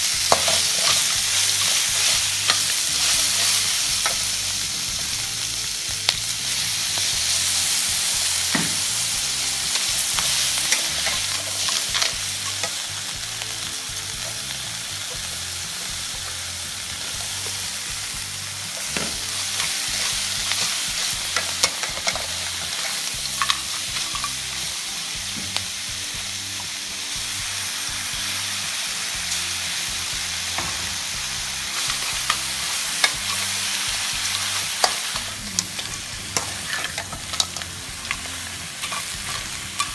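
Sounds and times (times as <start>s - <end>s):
metal spatula scraping wok: 0.0s - 25.6s, 30.4s - 39.9s
food sizzling in a wok: 0.0s - 39.9s.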